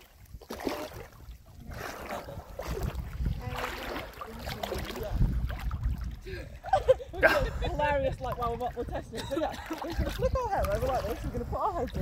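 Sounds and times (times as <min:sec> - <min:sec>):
lake water lapping: 0:00.0 - 0:12.0
wind buffeting microphone: 0:00.0 - 0:12.0.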